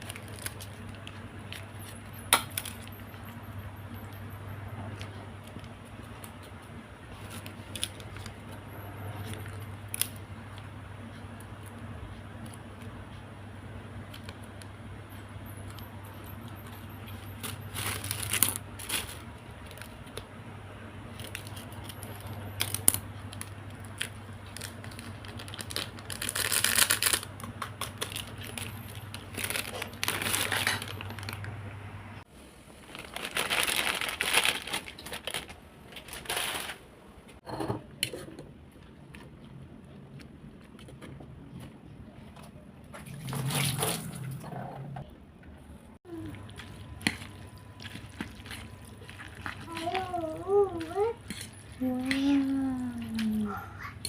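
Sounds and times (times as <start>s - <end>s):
steady low hum: 0.0s - 33.0s, 36.8s - 54.0s.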